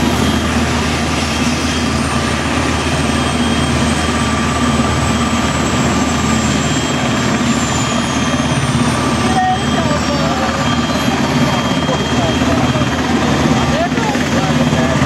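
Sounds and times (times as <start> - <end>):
helicopter rotor blade beat: 0.0 - 15.0
turbine engines whining: 0.0 - 15.0.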